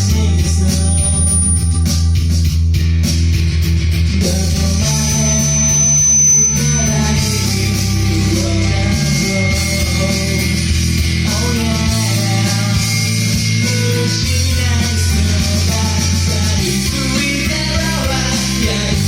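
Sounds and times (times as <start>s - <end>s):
person singing: 0.0s - 2.2s, 4.2s - 19.0s
bass: 0.0s - 19.0s
guitar: 0.0s - 19.0s.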